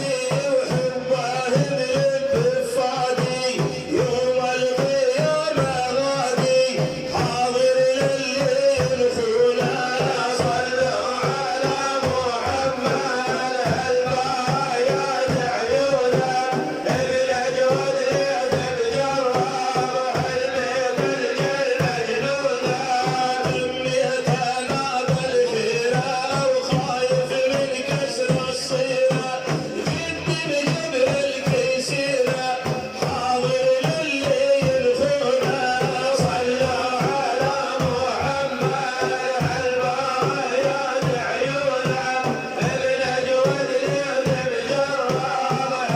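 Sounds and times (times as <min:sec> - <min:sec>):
hand drum beats: 0:00.0 - 0:45.9
man chanting: 0:00.0 - 0:45.9.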